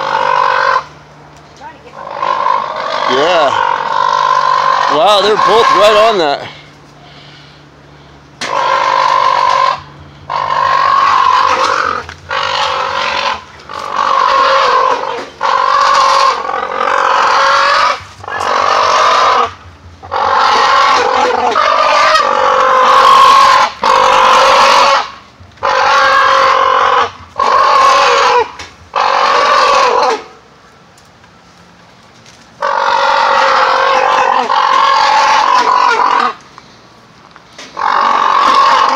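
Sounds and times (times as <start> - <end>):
cranes honking calls: 0.0 - 1.0, 1.8 - 30.3, 32.6 - 36.8, 37.6 - 38.9.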